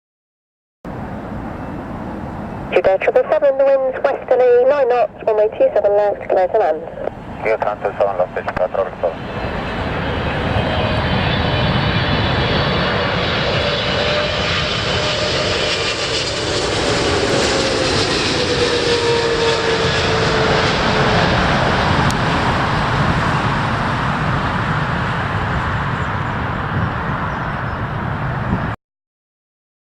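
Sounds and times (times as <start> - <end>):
jet engines rumble and whine: 0.9 - 28.8.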